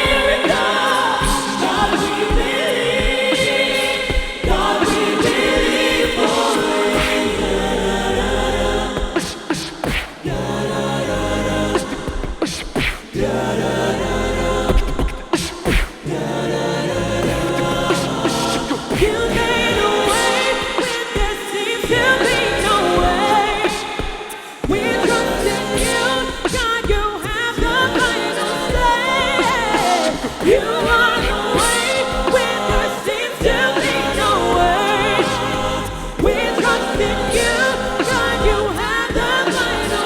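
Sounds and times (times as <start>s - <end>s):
vocal group singing in harmony: 0.0s - 40.0s.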